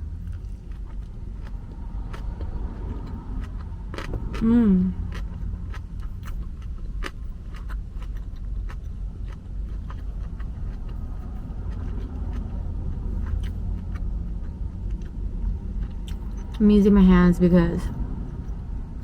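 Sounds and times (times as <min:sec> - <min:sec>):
chewing and smacking: 0:00.0 - 0:17.0
steady low rumble: 0:00.0 - 0:19.0.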